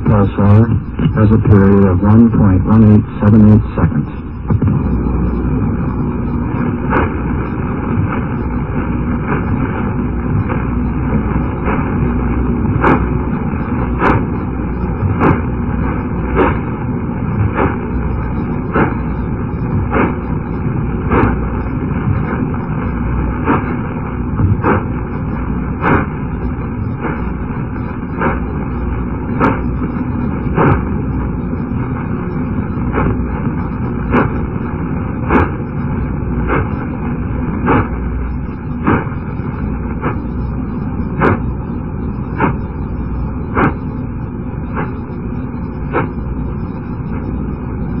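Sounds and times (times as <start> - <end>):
sharp radio clicks: 0.0 - 23.8, 24.4 - 37.0, 37.6 - 48.0
static hiss: 0.0 - 48.0.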